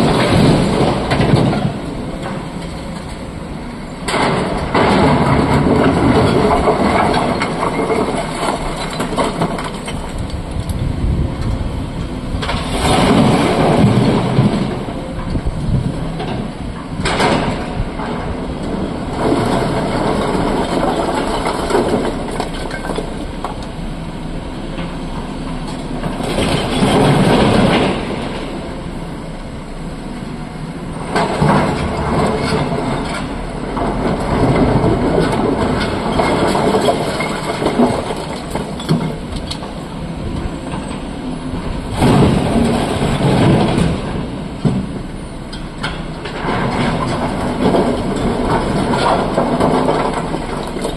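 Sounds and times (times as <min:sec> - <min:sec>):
excavator diesel engine surging: 0:00.0 - 0:50.9.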